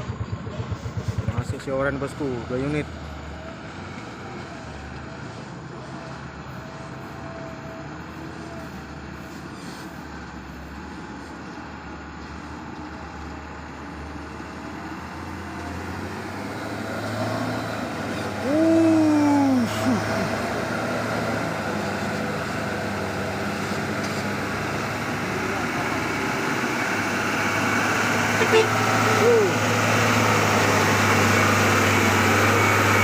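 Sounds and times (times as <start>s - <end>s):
truck diesel engines: 0.0s - 33.0s.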